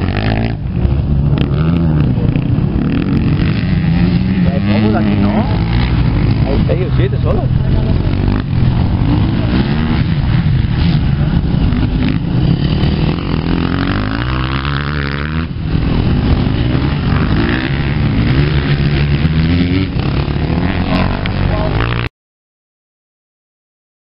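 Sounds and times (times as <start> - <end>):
dirt bike engines revving: 0.0 - 22.1.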